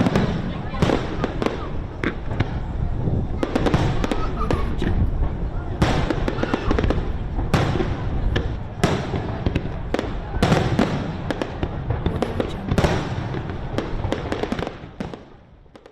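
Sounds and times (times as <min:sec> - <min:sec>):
fireworks booming: 0:00.0 - 0:15.9
fireworks crackling and popping: 0:00.0 - 0:15.9.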